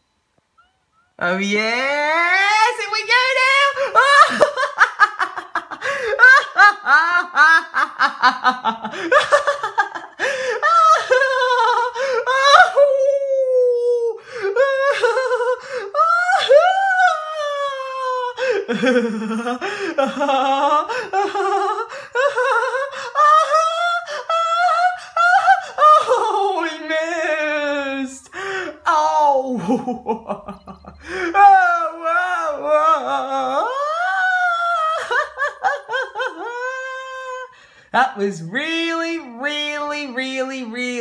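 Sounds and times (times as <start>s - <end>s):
person laughing hard: 3.4s - 27.1s, 28.3s - 37.5s.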